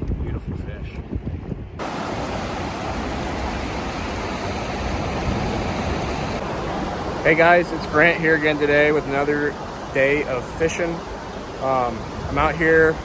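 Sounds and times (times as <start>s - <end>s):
river water rushing: 1.8s - 13.0s.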